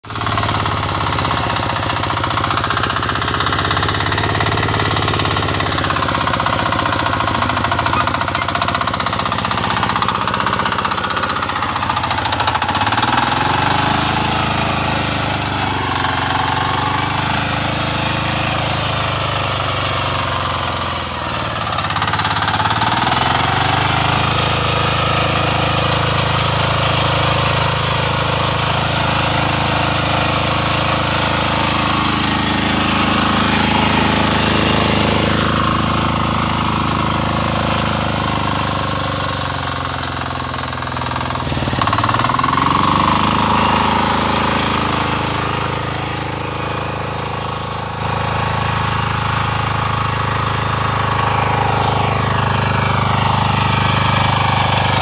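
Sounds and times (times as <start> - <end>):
diesel power weeder engine running: 0.0 - 55.0.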